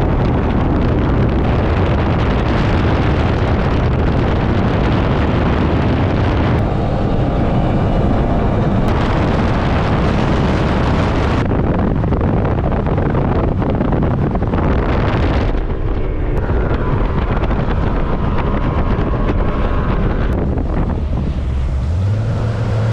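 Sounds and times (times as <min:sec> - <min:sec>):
boat engine running at speed: 0:00.0 - 0:22.9
wind buffeting microphone: 0:00.0 - 0:22.9.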